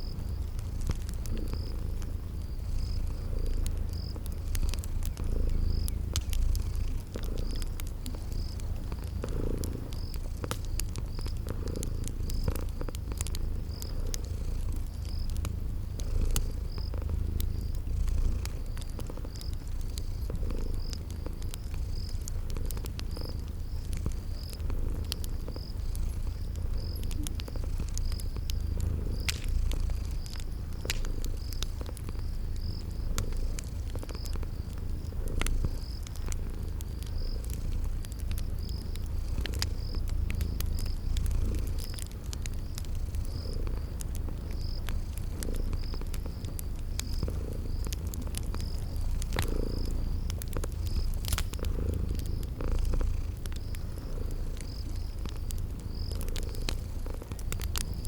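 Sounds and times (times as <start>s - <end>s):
cat purring: 0.0s - 58.0s
crickets chirping: 0.0s - 58.0s
wood fire crackling: 0.0s - 58.0s.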